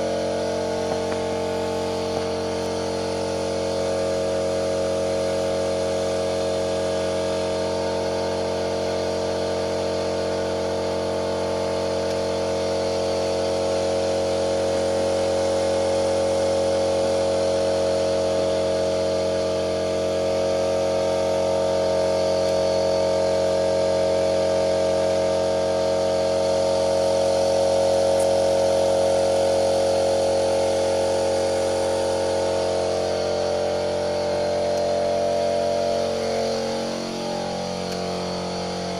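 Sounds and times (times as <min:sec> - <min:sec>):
car engine droning: 0:00.0 - 0:16.4, 0:17.0 - 0:38.9.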